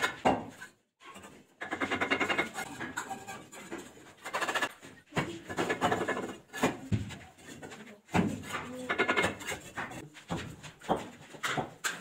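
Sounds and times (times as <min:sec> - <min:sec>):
brick hammer scraping brick: 0:00.0 - 0:12.0.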